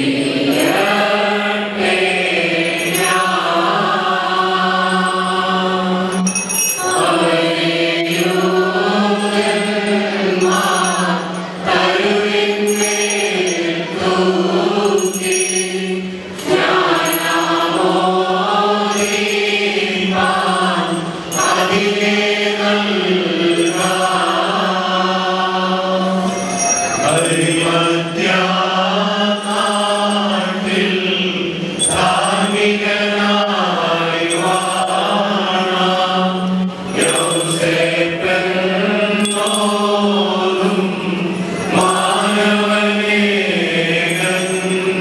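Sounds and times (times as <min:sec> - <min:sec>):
congregation singing a hymn: 0:00.0 - 0:45.0.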